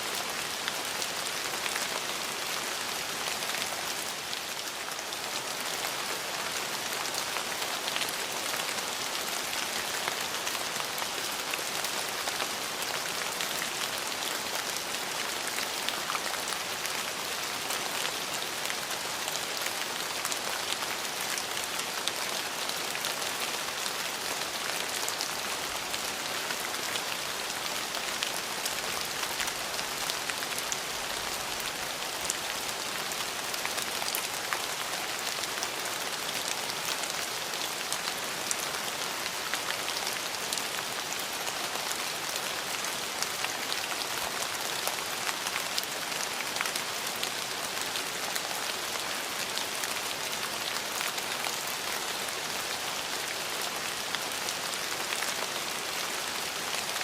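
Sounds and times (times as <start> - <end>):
raindrops ticking on hard surfaces: 0.0 - 57.0
steady rain hiss: 0.0 - 57.0.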